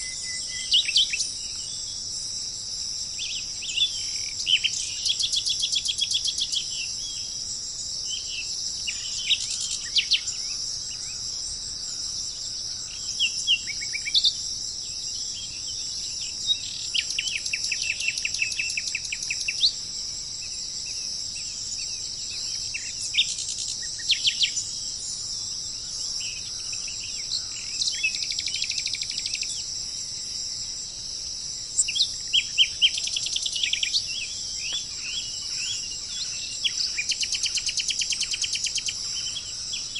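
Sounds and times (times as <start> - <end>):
small birds chirping and trilling: 0.0 - 39.9
steady high-pitched hiss: 0.0 - 39.9.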